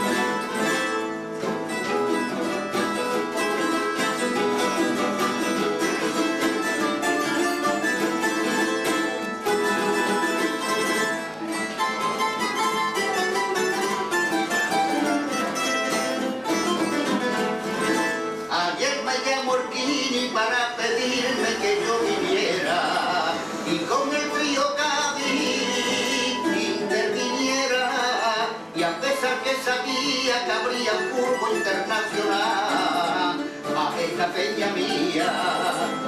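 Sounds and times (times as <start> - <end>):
plucked string trio playing: 0.0 - 36.0.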